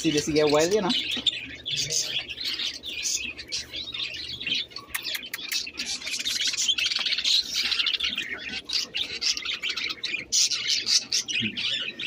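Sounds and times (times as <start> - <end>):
caged birds chirping and chattering: 0.0 - 12.0.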